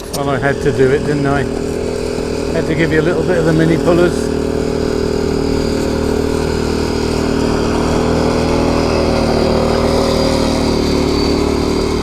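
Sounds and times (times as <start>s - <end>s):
high whine: 0.0s - 12.0s
tractor engine running: 0.0s - 12.0s.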